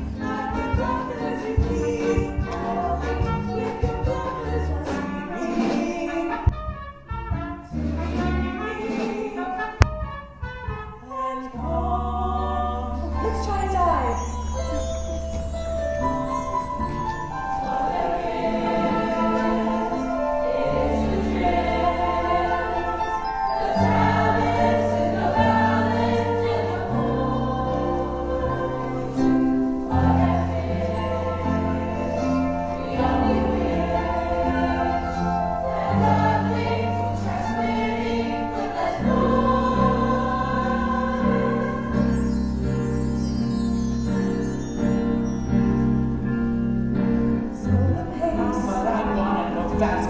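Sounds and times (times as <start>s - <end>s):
ensemble singing with accompaniment: 0.0s - 13.5s, 14.2s - 43.1s, 47.0s - 50.0s.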